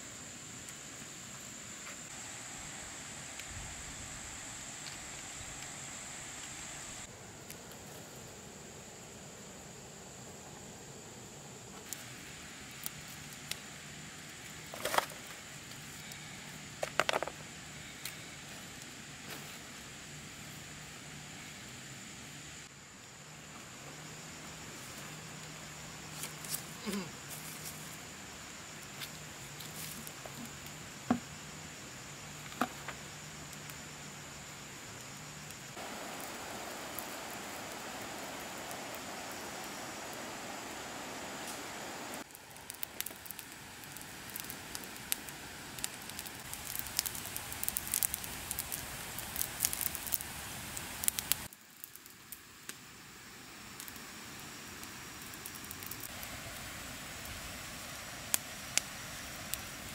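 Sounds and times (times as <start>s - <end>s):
crackling rustle of leaves: 0.0s - 59.9s
steady hiss: 0.0s - 59.9s.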